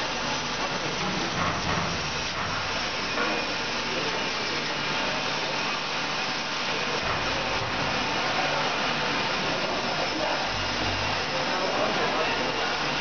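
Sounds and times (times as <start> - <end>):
bag-filling machine hissing: 0.0 - 13.0.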